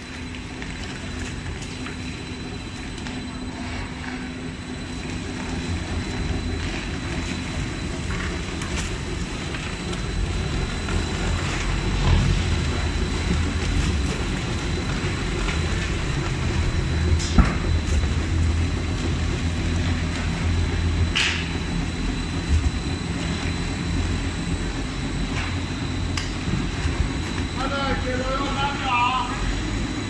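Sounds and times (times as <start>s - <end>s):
high mechanical whine: 0.0s - 30.0s
veneer lathe rumble: 0.0s - 30.0s.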